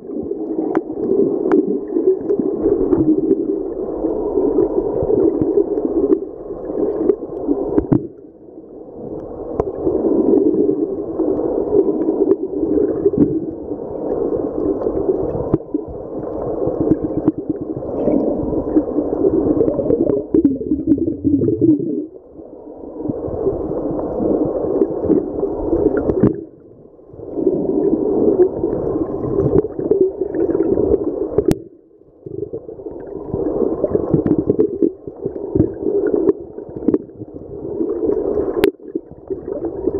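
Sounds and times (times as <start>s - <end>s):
muffled underwater gurgling rush: 0.0s - 39.9s.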